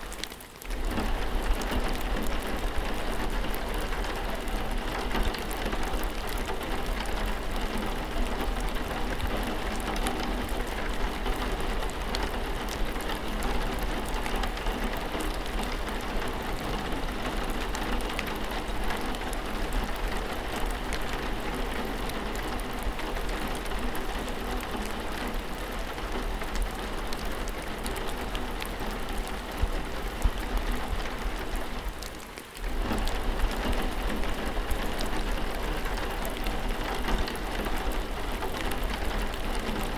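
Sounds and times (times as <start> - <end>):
patter of raindrops: 0.0 - 39.9
steady rain falling: 0.0 - 39.9.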